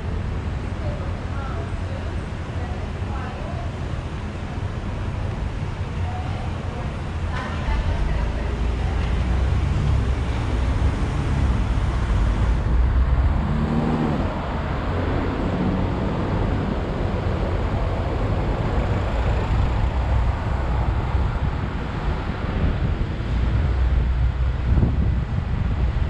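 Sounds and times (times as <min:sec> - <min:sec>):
car road noise with low rumble: 0:00.0 - 0:26.0.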